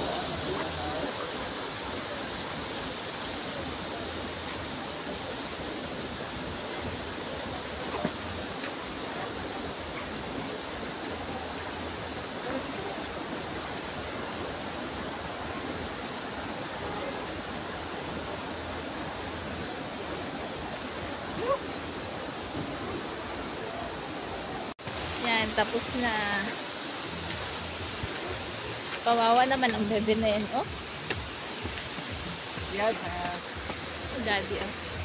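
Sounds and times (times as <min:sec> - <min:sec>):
waterfall and stream rushing: 0:00.0 - 0:35.0.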